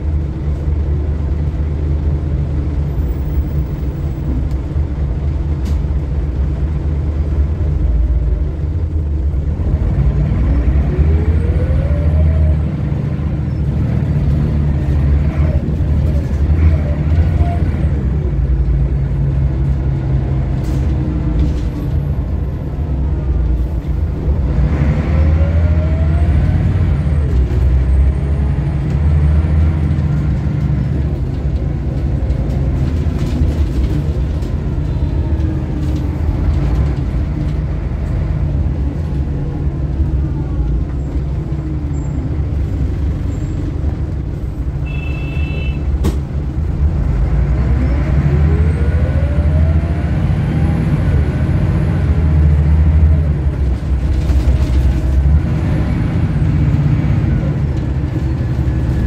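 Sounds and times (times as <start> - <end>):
bus diesel engine rumble: 0.0 - 59.0
engine whine: 0.0 - 59.0.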